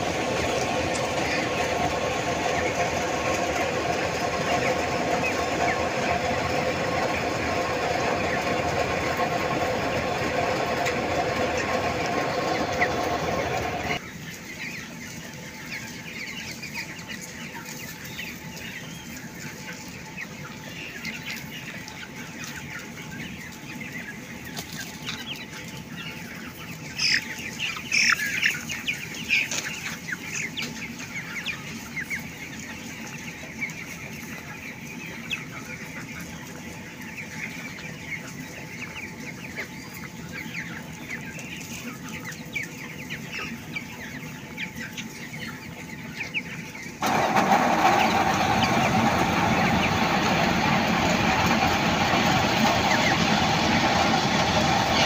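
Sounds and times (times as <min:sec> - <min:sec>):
chickens clucking and cheeping: 0:00.0 - 0:55.0.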